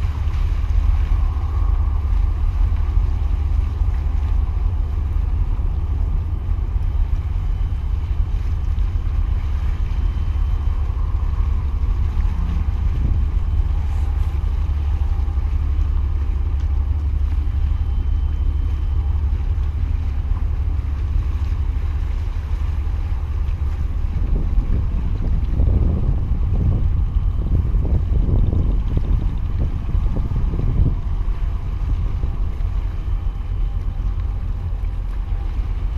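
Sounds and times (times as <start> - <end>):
sea water washing against concrete: 0.0 - 35.9
wind buffeting microphone: 0.0 - 35.9.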